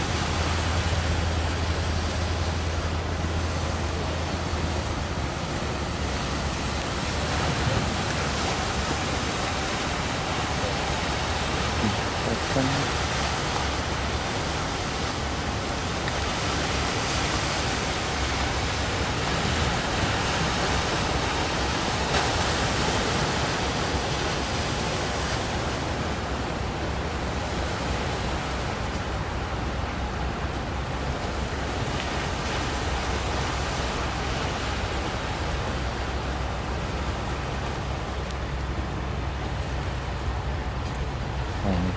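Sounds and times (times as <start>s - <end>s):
heavy surf rushing: 0.0s - 41.9s.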